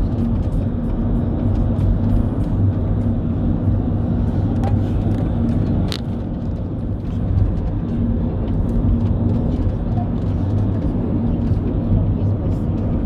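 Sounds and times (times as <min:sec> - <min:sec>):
vehicle engine hum and road rumble: 0:00.0 - 0:13.0.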